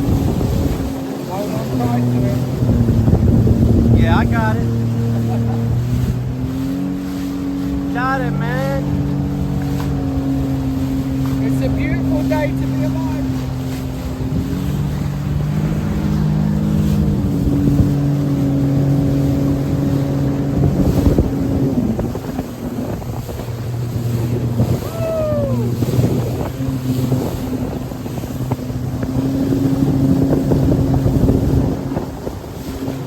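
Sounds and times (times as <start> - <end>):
watercraft engine running: 0.0 - 33.0
wind rushing past microphone: 0.0 - 33.0.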